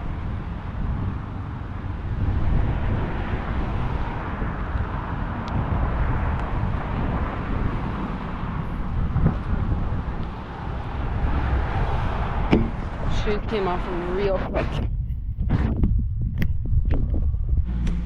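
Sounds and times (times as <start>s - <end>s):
road traffic rumbling: 0.0s - 14.8s, 17.1s - 18.0s
wind on microphone: 0.0s - 18.0s.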